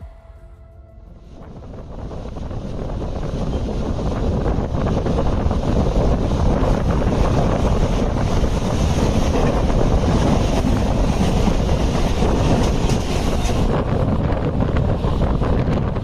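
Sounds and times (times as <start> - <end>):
train passing at high speed: 0.0 - 16.0
wind buffeting microphone: 1.0 - 16.0.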